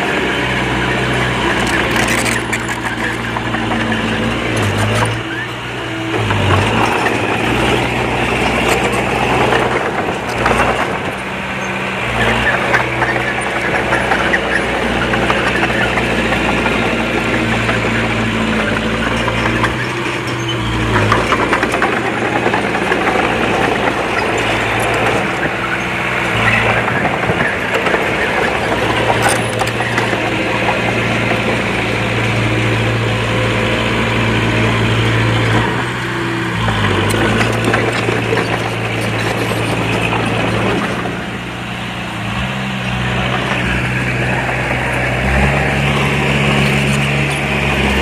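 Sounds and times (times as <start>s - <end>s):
heavy machinery diesel engine running: 0.0s - 48.0s.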